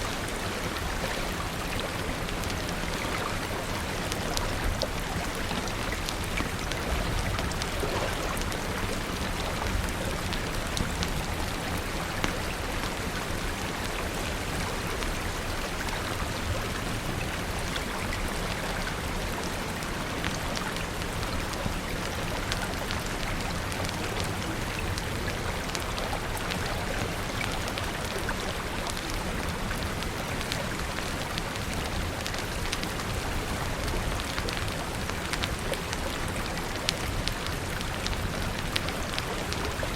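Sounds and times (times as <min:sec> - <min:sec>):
raindrop ticks: 0:00.0 - 0:39.9
steady rain hiss: 0:00.0 - 0:39.9.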